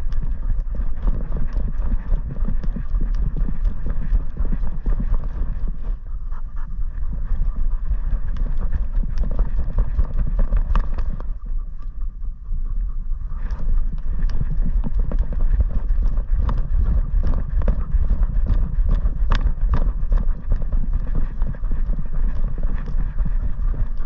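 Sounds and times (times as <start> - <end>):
dog paws striking ground: 0.0 - 6.0, 6.9 - 11.4, 13.5 - 24.0
constant low rumble: 0.0 - 24.0.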